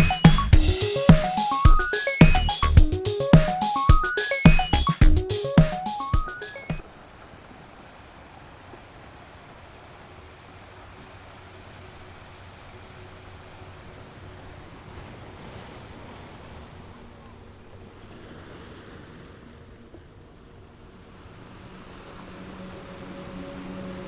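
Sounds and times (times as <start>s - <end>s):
ocean waves washing in: 0.0s - 24.0s.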